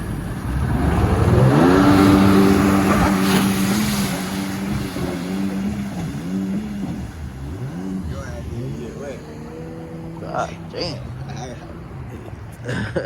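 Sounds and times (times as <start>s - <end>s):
jet ski engine revving: 0.0s - 12.6s.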